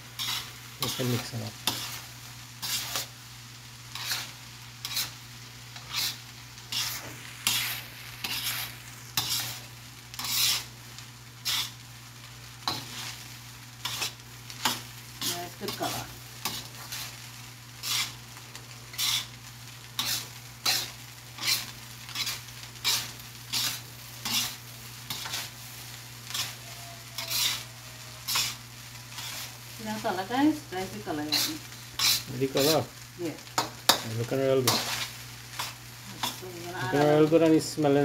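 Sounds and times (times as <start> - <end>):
faint sizzle of frying: 0.0 - 38.0
spatula scraping a wok: 0.0 - 38.0.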